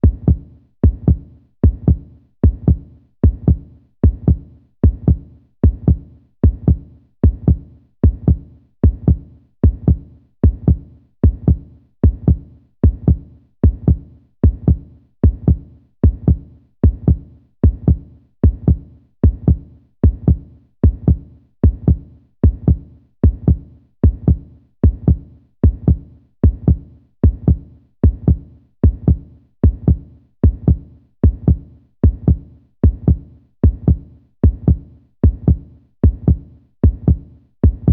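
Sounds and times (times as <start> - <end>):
human heartbeat: 0.0 - 37.9.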